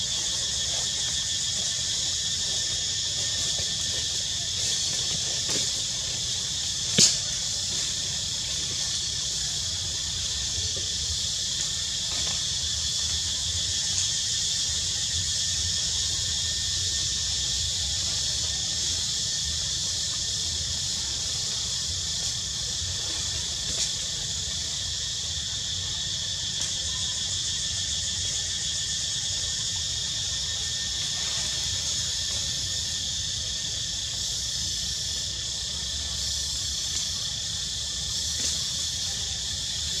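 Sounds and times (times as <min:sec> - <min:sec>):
insect chorus drone: 0:00.0 - 0:40.0.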